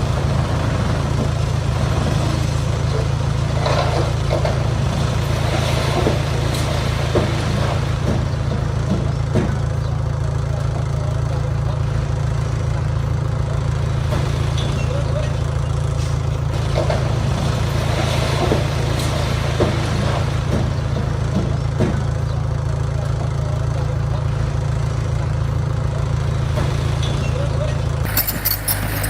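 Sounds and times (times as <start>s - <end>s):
diesel engine running steadily: 0.0s - 29.0s.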